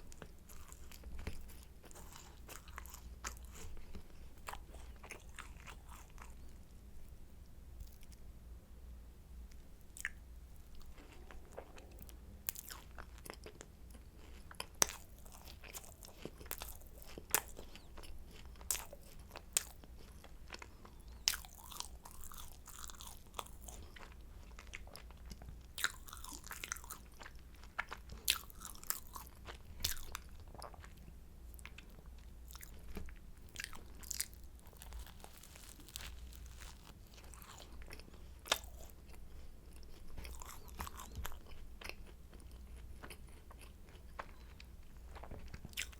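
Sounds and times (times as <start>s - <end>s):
crunching pastry being bitten: 0.0s - 6.6s, 9.9s - 45.9s
soft chewing: 0.0s - 8.3s, 9.4s - 45.9s.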